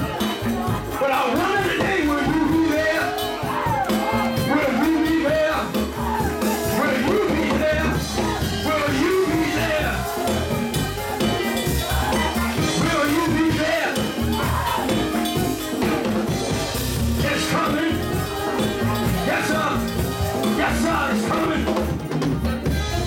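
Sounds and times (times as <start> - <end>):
drum kit playing: 0.0 - 23.0
live church band music: 0.0 - 23.0.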